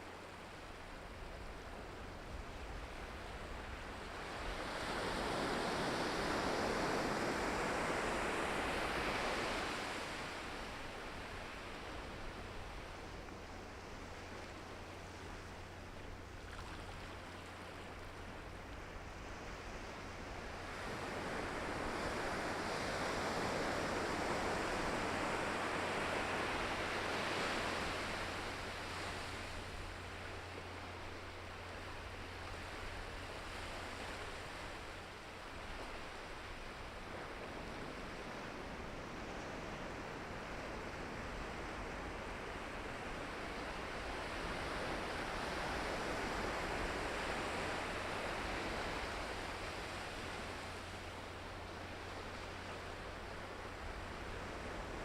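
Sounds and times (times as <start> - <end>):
ocean surf washing onto shore: 2.6 - 13.6, 19.6 - 55.0.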